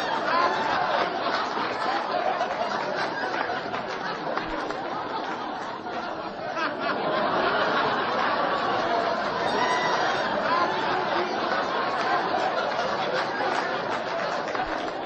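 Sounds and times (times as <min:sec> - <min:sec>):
group of people chattering: 0:00.0 - 0:15.0
people laughing: 0:00.0 - 0:15.0.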